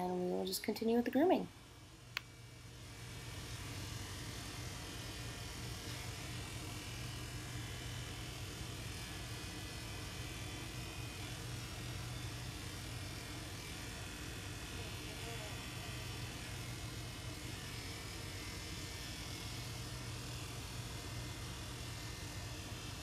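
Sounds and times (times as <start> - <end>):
electric clippers humming: 0.0 - 23.0.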